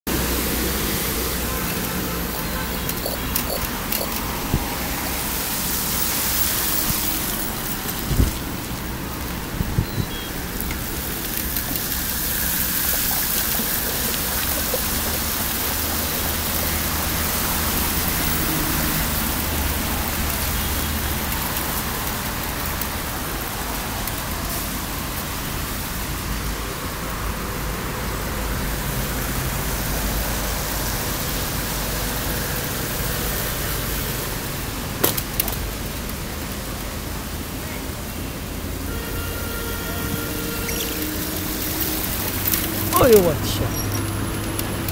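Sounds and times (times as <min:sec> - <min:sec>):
bicycle tyres through water: 0:00.1 - 0:44.9.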